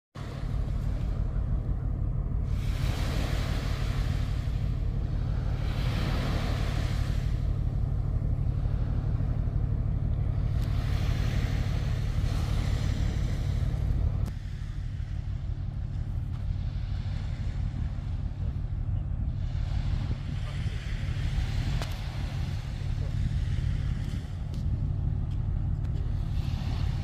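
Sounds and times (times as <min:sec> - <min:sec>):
water rushing on shore: 0:00.2 - 0:27.0
wind buffeting microphone: 0:00.2 - 0:27.0.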